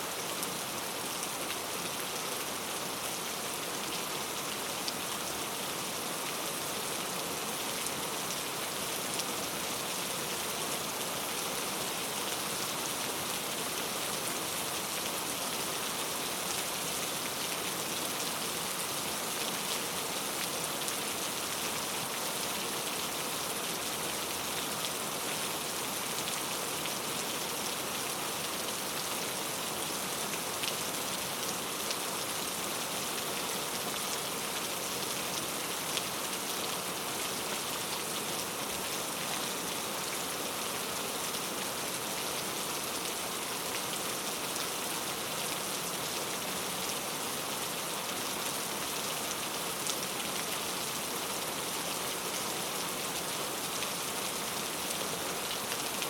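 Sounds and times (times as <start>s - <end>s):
rain on foliage: 0.0s - 56.0s.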